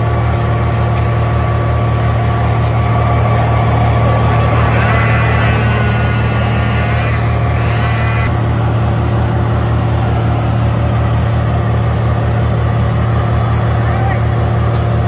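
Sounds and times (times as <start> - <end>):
high whine: 0.0 - 12.2
wood chipper engine droning: 0.0 - 15.0.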